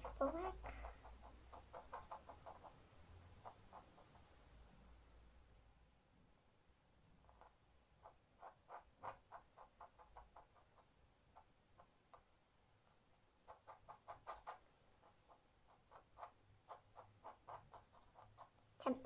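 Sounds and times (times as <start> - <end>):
pen nib ticking on paper: 0.0 - 4.3, 7.2 - 19.0.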